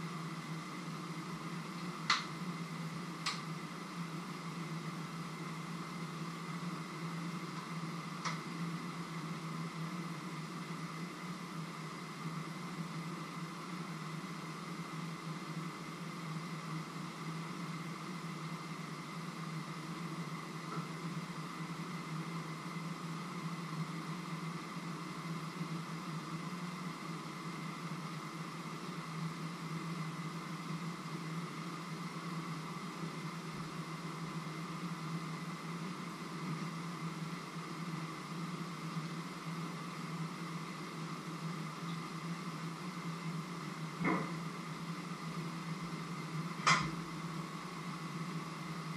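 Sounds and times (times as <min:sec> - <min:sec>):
steady mechanical hum: 0:00.0 - 0:48.9.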